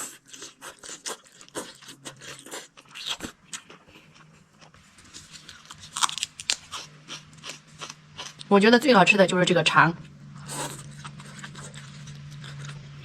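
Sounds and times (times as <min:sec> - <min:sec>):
person chewing crunchy food: 0:00.0 - 0:08.5, 0:10.3 - 0:13.0.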